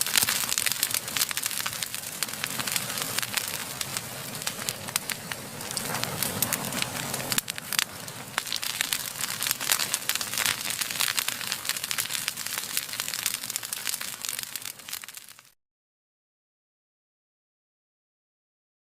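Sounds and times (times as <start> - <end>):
low rushing of flame: 0.0 - 15.6
wood fire crackling: 0.0 - 15.6.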